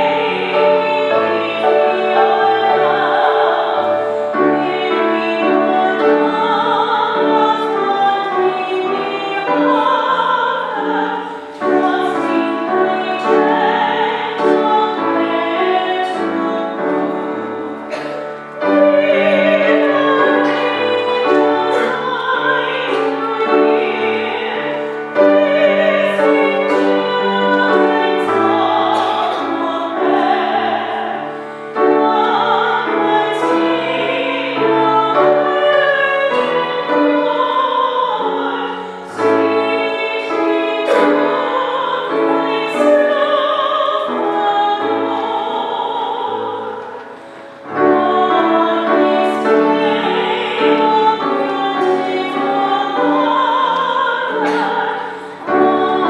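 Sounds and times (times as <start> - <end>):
keyboard accompaniment: 0.0 - 56.0
voices singing a hymn: 0.0 - 56.0.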